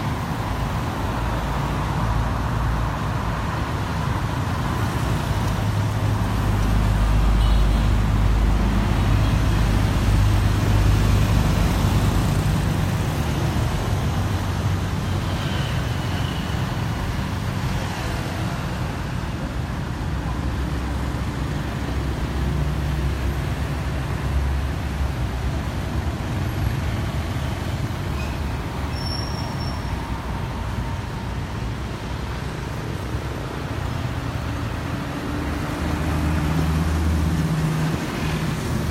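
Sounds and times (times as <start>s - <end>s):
car engines rumbling: 0.0s - 38.9s.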